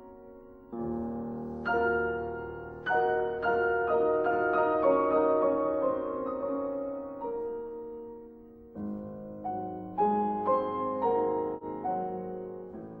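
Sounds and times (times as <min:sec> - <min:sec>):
calm piano music: 0:00.0 - 0:13.0.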